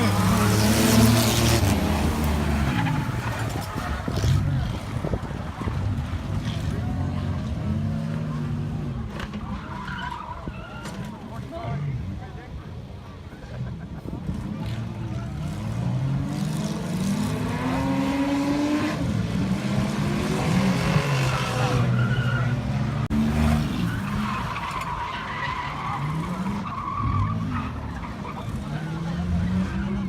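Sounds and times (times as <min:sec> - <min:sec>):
stock car engines racing: 0:00.0 - 0:30.0.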